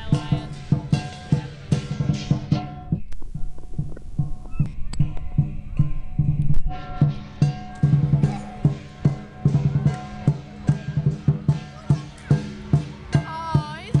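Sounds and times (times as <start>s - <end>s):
drum and percussion beat: 0.0s - 14.0s
ringing cymbal tones: 0.0s - 14.0s.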